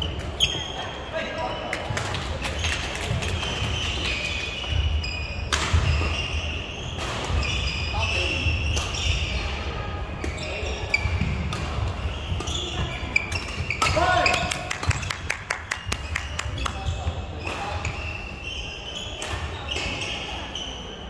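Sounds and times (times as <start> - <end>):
shoes squeaking on floor: 0.0 - 21.0.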